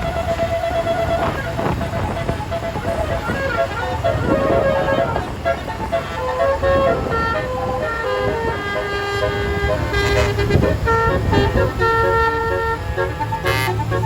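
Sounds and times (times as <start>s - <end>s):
bus engine running: 0.0s - 14.0s
bus horn playing a melody: 0.0s - 14.0s.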